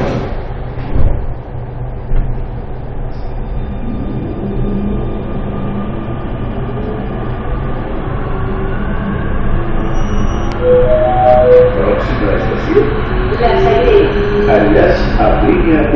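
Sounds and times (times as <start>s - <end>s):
train wheels rumbling on rail: 0.0s - 10.6s, 11.8s - 15.9s.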